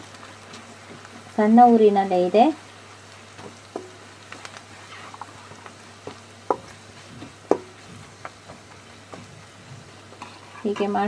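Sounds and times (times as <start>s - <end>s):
oil frying sizzle: 0.0s - 11.0s.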